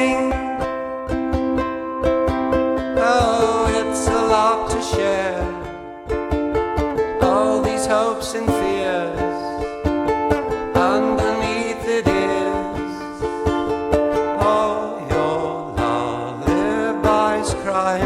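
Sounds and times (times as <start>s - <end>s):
person singing wordlessly: 0.0s - 1.4s, 2.8s - 6.0s, 7.0s - 18.0s
ukulele strumming: 0.0s - 18.0s.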